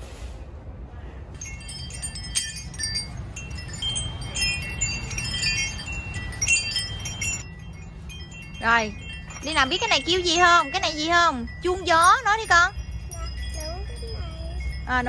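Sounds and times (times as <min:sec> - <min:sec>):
metal wind chimes ringing: 0:01.4 - 0:15.0.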